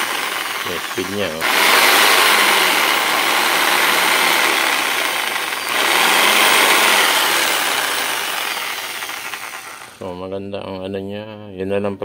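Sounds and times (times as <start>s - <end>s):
jigsaw motor running: 0.0s - 10.0s.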